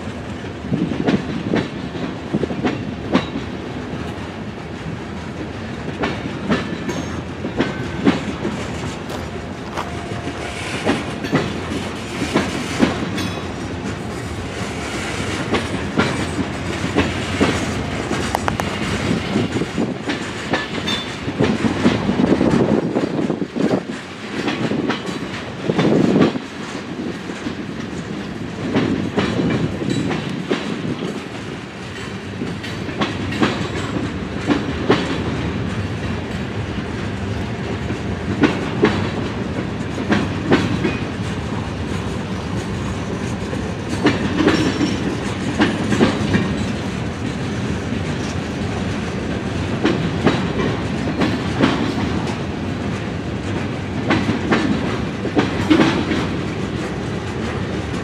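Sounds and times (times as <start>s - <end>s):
freight train rumble: 0.0s - 58.0s
train wheels clicking over rail joints: 0.0s - 58.0s.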